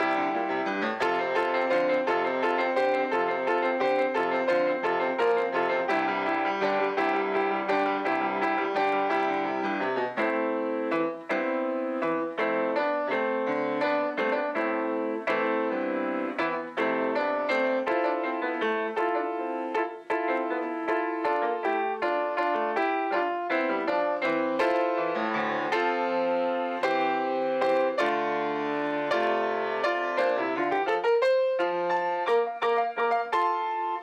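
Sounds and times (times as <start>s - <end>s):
solo grand piano: 0.0s - 34.0s.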